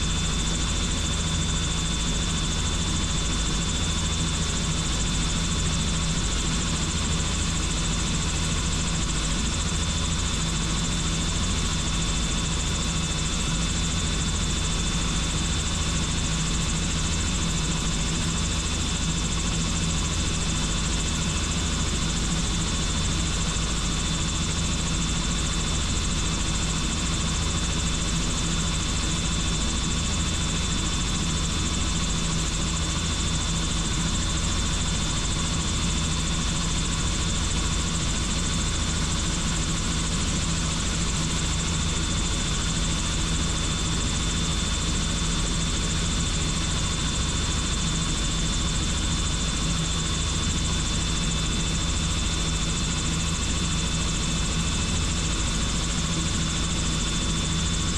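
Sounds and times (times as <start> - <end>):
helicopter rotor and turbine drone: 0.0 - 57.9.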